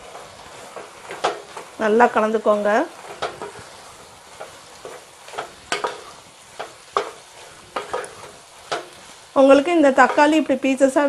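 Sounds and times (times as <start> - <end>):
faint frying sizzle: 0.0 - 11.0
spatula scraping and knocking pan: 0.0 - 11.0.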